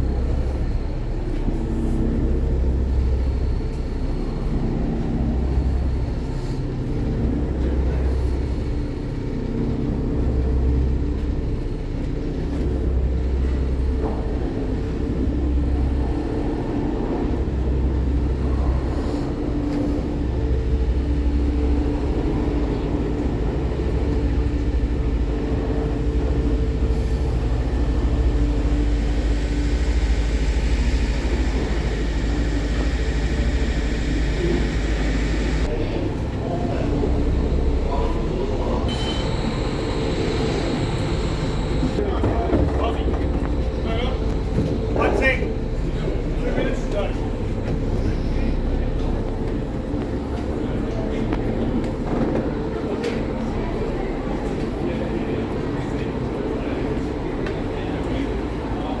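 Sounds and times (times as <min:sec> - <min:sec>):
large vehicle rumble: 0:00.0 - 0:59.0
steady hum: 0:00.0 - 0:59.0.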